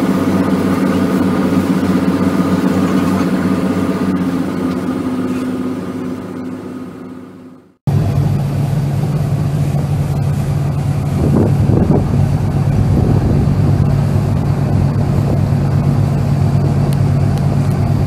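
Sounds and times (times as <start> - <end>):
ferry engine droning: 0.0 - 18.0.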